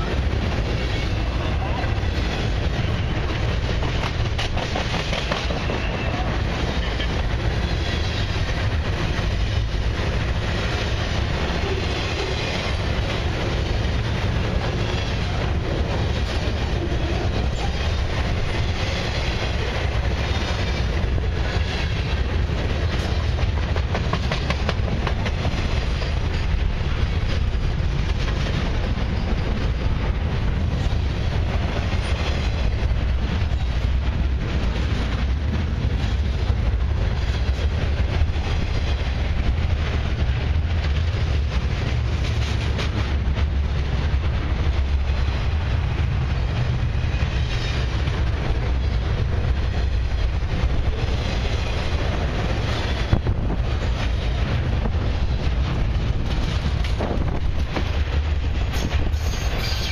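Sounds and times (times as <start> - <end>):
clickety-clack over rail joints: 0.0 - 59.9
steel wheels rumbling on rail: 0.0 - 59.9.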